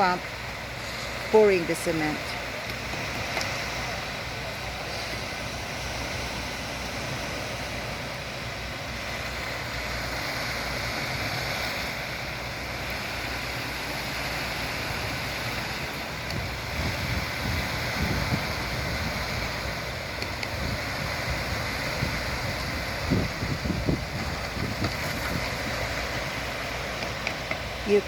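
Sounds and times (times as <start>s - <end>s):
diesel engine rumbling: 0.0s - 28.0s
noisy hiss: 0.0s - 28.0s.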